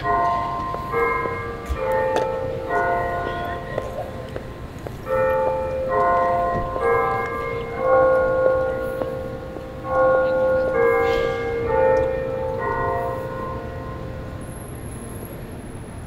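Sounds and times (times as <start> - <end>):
church bells ringing: 0.0 - 15.6.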